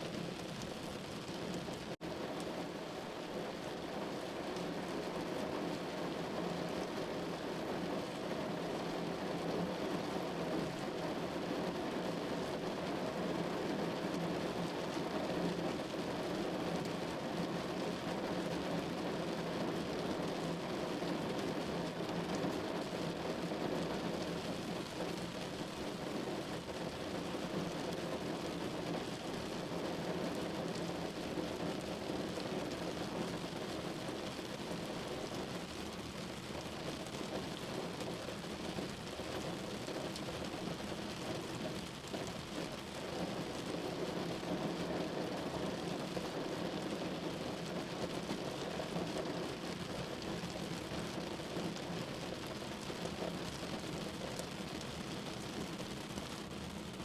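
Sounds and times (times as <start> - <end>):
rain on a window: 0.0 - 57.0.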